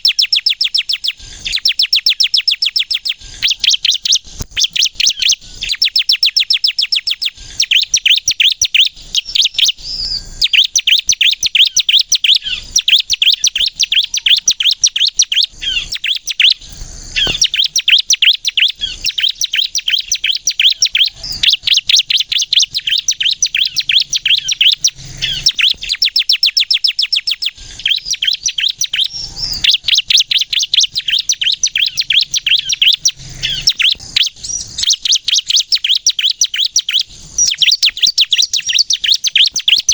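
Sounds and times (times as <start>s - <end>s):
bird singing fast high notes: 0.0s - 39.9s.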